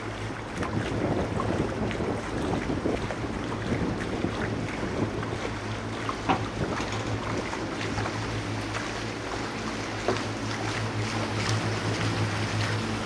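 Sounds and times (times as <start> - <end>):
boat diesel engines droning: 0.0 - 13.0
water noise: 0.0 - 13.0
wind: 0.0 - 13.0.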